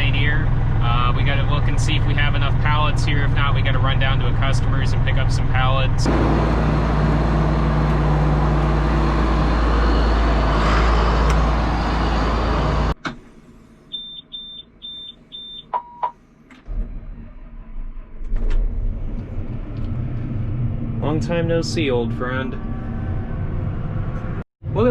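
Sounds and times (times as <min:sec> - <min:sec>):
low engine rumble: 0:00.0 - 0:14.0, 0:16.2 - 0:24.9
truck diesel engine droning: 0:00.0 - 0:15.5, 0:16.7 - 0:24.9.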